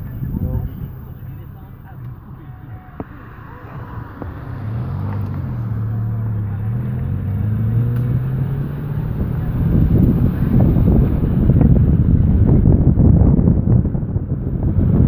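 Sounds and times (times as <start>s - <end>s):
wind buffeting microphone: 0.0s - 1.4s, 3.8s - 15.0s
car engine running: 0.0s - 15.0s.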